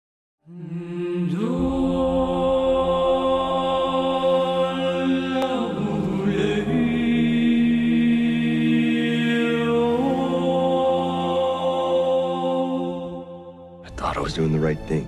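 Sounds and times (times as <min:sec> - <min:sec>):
slow choral chant: 0:00.4 - 0:13.9.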